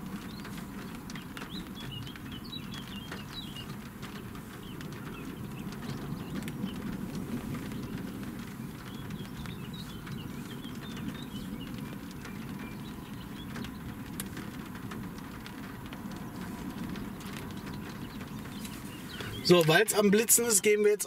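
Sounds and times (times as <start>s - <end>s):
birds chirping: 0.0s - 21.0s
raindrops tapping on car: 0.0s - 21.0s.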